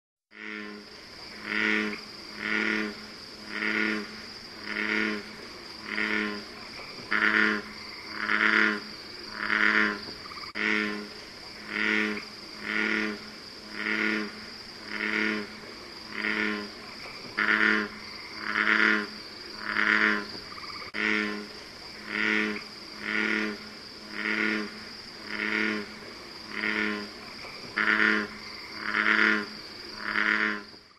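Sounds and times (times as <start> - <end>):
bullfrog croaking: 0.3 - 30.9.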